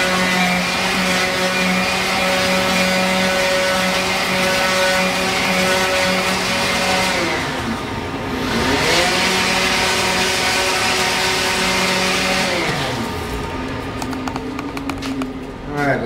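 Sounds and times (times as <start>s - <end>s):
electric power sander running: 0.0s - 15.5s
dust collector running: 0.0s - 16.0s.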